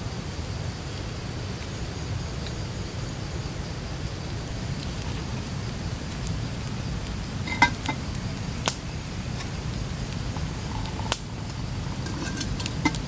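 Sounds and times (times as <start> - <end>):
low background noise: 0.0 - 13.0
campfire wood crackling: 0.1 - 13.0.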